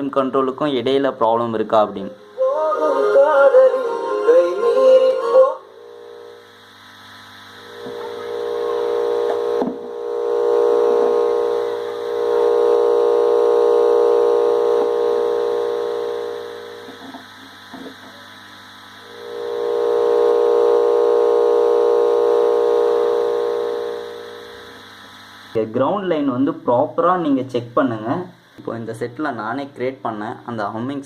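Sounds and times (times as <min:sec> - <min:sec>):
mains hum through speakers: 0:00.0 - 0:31.0.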